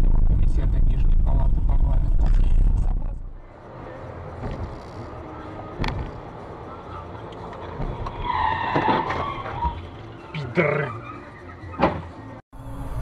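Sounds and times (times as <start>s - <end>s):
loud low car rumble: 0.0s - 13.0s
road noise inside car: 0.0s - 13.0s.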